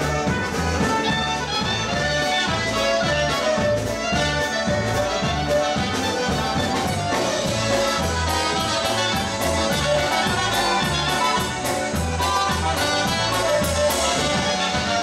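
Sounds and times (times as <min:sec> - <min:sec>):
polka band playing: 0:00.0 - 0:15.0.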